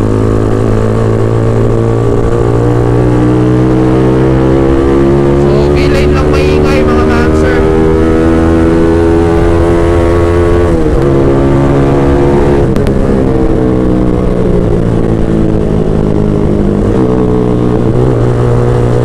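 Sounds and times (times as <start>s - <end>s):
motorcycle engine running loud: 0.0s - 19.0s.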